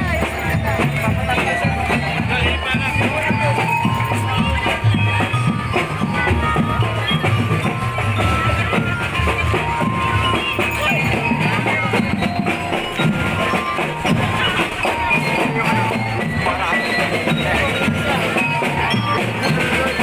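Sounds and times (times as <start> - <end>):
marching band playing: 0.0 - 20.0
steady drum beat: 0.0 - 20.0.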